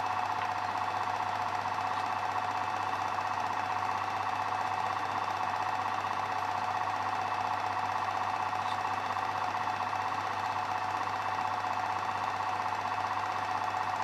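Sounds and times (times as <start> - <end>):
film projector clatter: 0.0 - 14.0.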